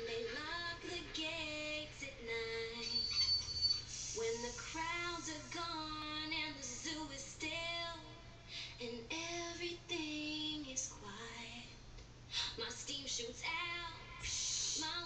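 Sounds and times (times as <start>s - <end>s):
children's song on television: 0.0s - 11.8s, 12.4s - 15.0s.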